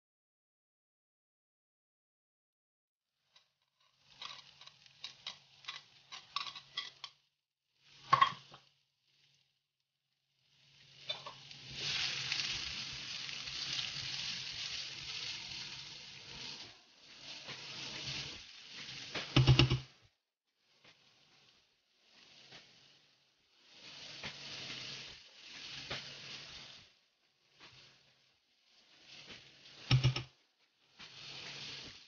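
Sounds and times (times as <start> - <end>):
onion sizzling in hot oil: 3.2 - 7.2, 7.8 - 9.5, 10.3 - 20.1, 20.7 - 32.0.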